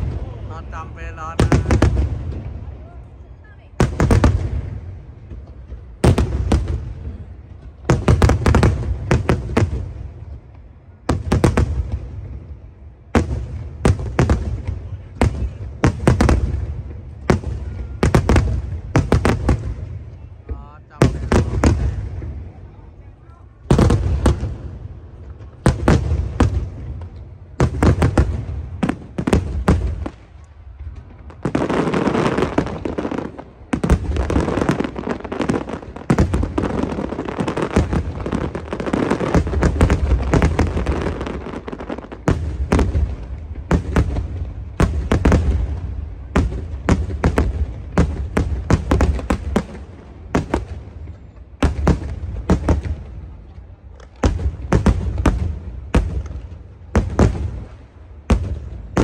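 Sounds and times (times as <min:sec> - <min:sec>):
crackling firework barrage: 0:00.0 - 0:59.0
fireworks bangs and booms: 0:00.0 - 0:59.0.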